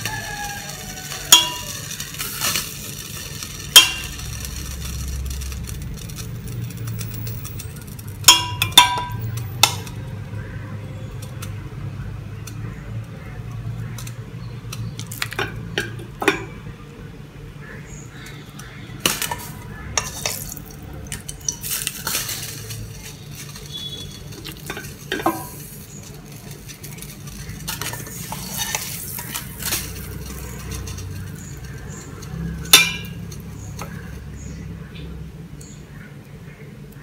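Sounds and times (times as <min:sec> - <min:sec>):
clicks and knocks against pot: 0:00.0 - 0:10.2, 0:12.4 - 0:16.7, 0:18.2 - 0:34.4.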